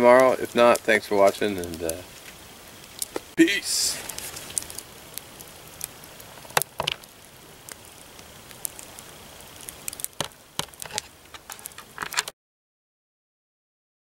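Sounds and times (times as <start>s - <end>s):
campfire crackling and popping: 0.0s - 12.3s
faint steady hiss: 0.0s - 12.3s.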